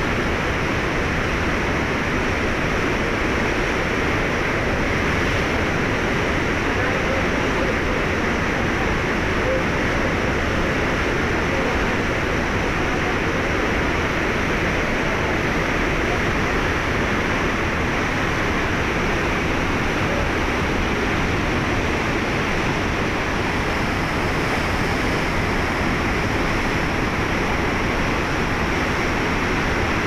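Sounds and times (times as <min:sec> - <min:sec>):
river rushing through rapids: 0:00.0 - 0:30.0.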